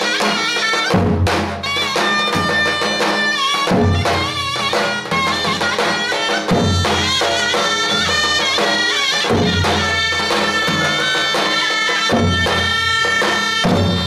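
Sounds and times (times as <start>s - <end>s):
shrill reedy pipe melody: 0.0s - 14.0s.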